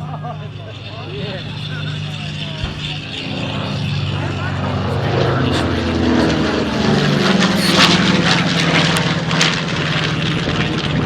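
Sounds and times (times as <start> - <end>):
propeller plane flying past: 0.0 - 11.0.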